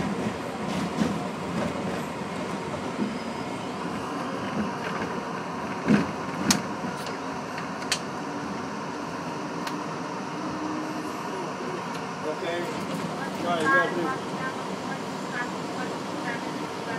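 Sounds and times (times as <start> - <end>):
train wheels rumbling: 0.0 - 16.9.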